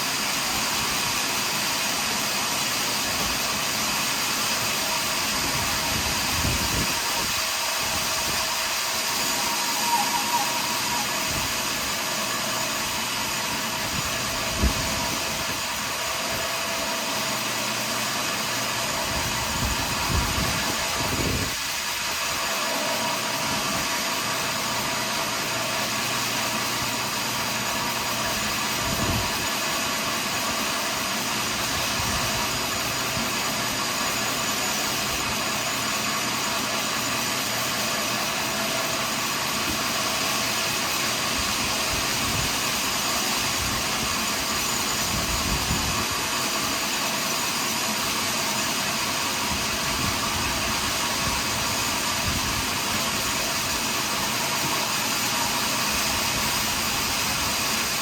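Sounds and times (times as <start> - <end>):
noisy machine whine: 0.0 - 58.0
sawmill machinery hum: 0.0 - 58.0.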